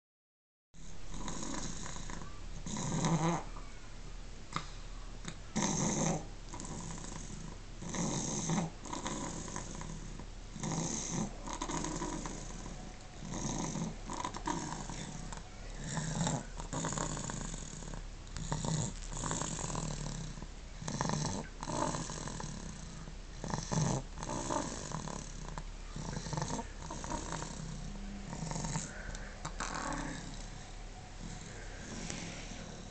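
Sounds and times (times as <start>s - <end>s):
baby snoring deeply: 0.8s - 3.5s, 5.5s - 32.9s.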